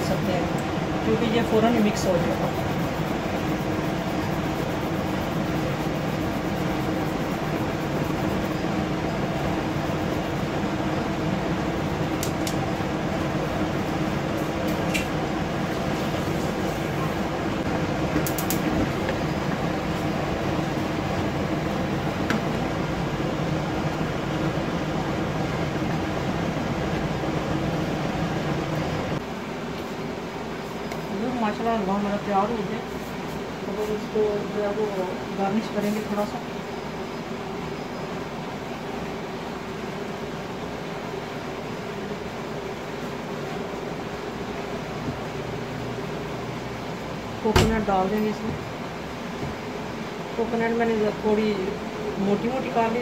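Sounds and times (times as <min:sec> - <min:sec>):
fan humming: 0:00.0 - 0:53.0.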